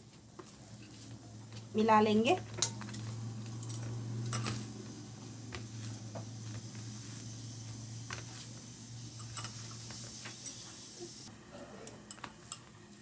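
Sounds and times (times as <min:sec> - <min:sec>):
hands rustling crumbly mixture: 0:00.0 - 0:10.9
steady low hum: 0:00.0 - 0:13.0.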